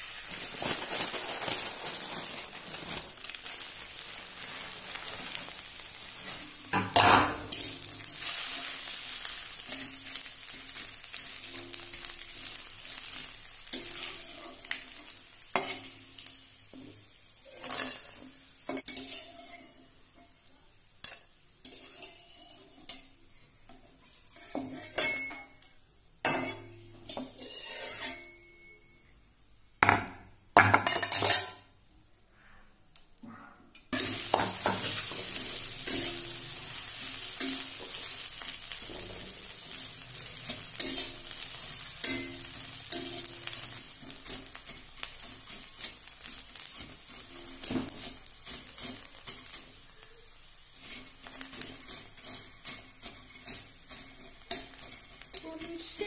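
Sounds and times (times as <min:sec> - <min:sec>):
frying in hot oil sizzling: 0:00.0 - 0:28.5, 0:33.9 - 0:56.0
metal spatula scraping a pan: 0:02.8 - 0:16.3, 0:17.4 - 0:25.6, 0:26.2 - 0:28.9, 0:33.3 - 0:49.8, 0:50.7 - 0:56.0.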